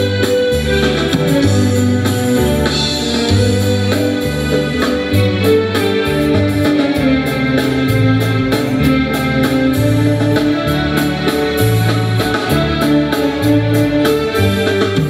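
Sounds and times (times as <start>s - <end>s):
live band slow dance music: 0.0s - 15.0s.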